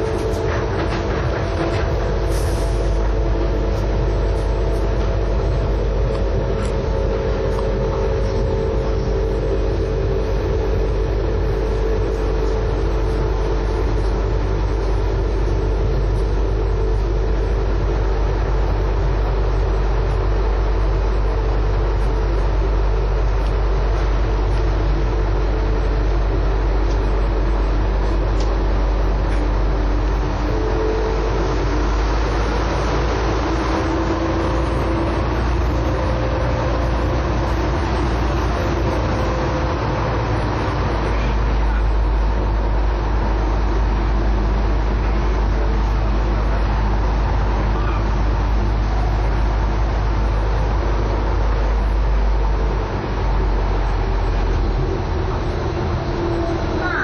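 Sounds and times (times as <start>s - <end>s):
train rumbling on guideway: 0.0s - 57.0s.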